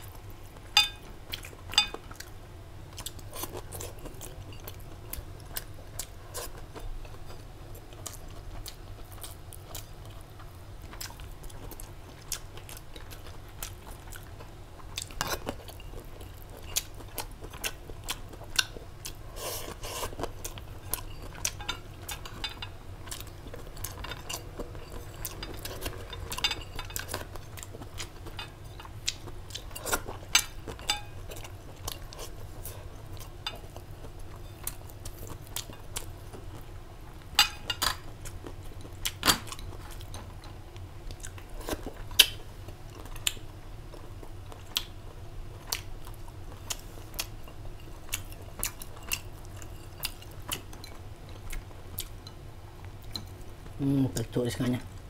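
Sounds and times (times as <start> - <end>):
chewing: 0.0 - 53.8
steady low hum: 0.0 - 55.0.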